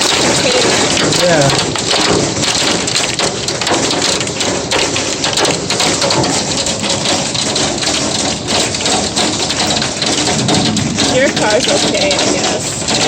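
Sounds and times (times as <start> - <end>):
hailstones pelting down: 0.0 - 13.0.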